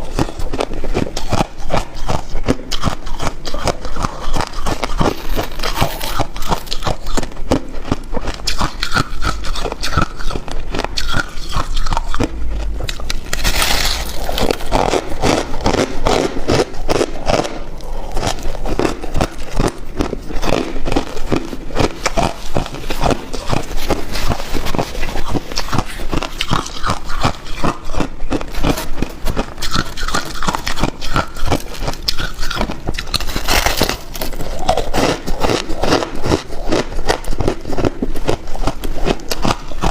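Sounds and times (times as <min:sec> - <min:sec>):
ice being chewed with crunches: 0:00.0 - 0:39.9.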